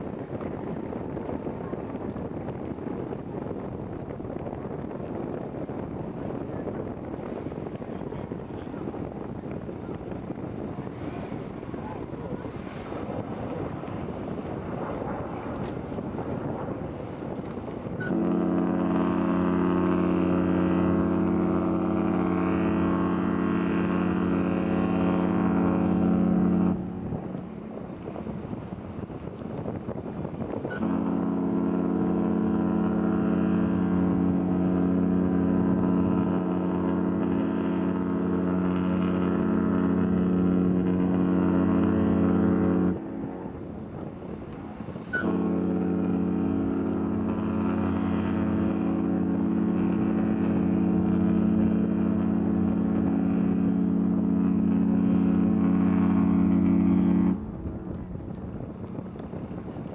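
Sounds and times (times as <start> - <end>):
ship horn blasts: 0.0 - 59.9.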